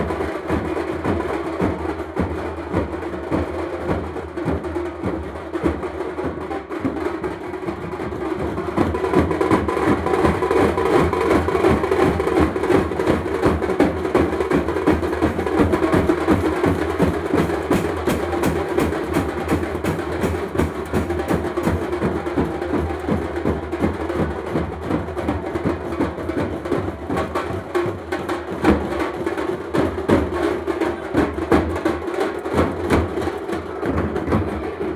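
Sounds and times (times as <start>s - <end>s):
fast drum beat: 0.0s - 34.9s.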